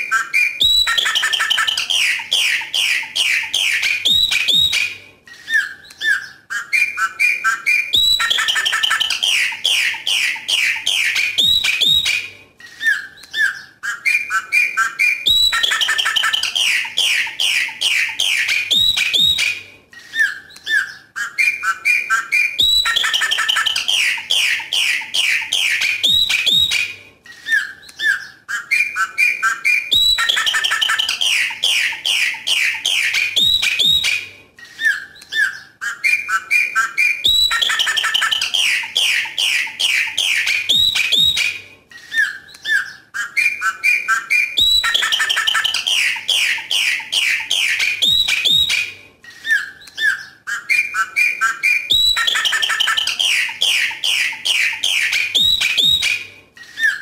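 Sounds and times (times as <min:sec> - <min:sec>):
blackbird singing whistled notes: 0:00.0 - 0:34.2, 0:34.8 - 0:57.0.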